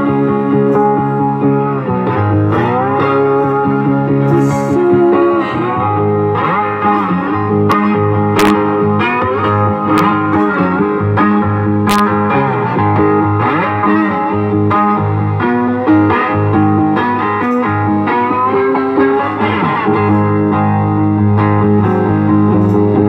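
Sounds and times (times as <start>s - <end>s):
electric guitar playing: 0.0s - 23.0s.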